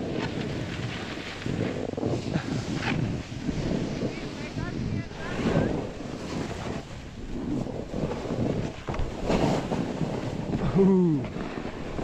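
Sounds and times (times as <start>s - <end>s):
snowboard sliding on snow: 0.0s - 12.0s
wind on microphone: 0.0s - 12.0s.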